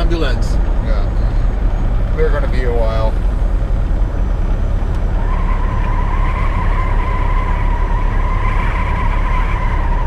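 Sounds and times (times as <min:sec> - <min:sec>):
truck rumble in storm wind: 0:00.0 - 0:10.0.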